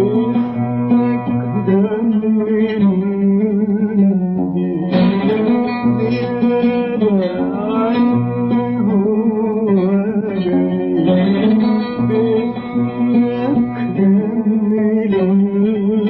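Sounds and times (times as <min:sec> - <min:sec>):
man singing melismatic vowel: 0:00.0 - 0:16.0
plucked oud: 0:00.0 - 0:16.0.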